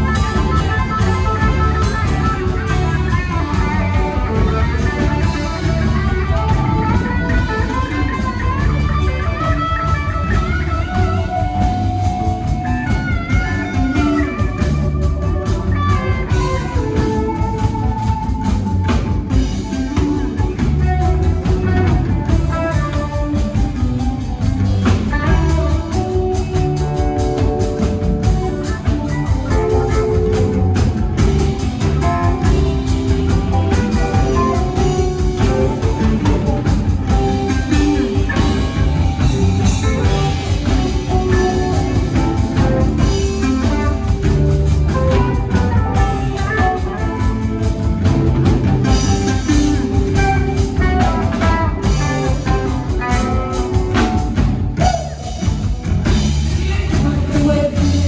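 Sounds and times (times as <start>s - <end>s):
bass guitar: 0.0s - 58.0s
drum kit: 0.0s - 58.0s
electric guitar lead: 0.0s - 58.0s.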